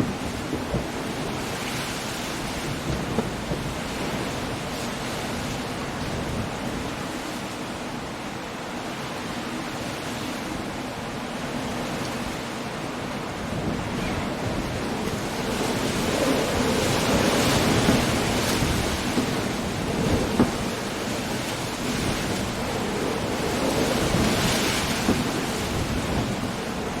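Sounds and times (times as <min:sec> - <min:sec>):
rain: 0:00.0 - 0:27.0
waves breaking against cliffs: 0:00.0 - 0:27.0
wind: 0:00.0 - 0:27.0.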